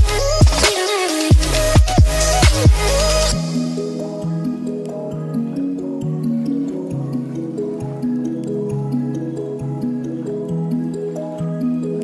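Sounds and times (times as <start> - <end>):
gentle instrumental melody: 0.0 - 12.0.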